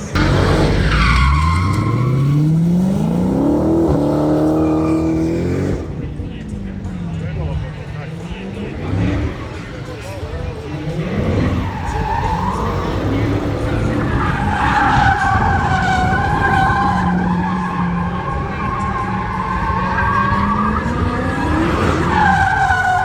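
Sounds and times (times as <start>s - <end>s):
car engine revving: 0.0s - 23.0s
tyres squealing: 0.0s - 23.0s.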